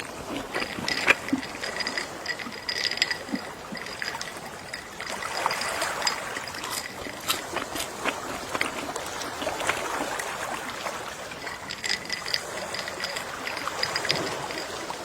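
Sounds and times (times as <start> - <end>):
sea waves lapping on shore: 0.0 - 15.0
small clicks in water: 0.0 - 15.0.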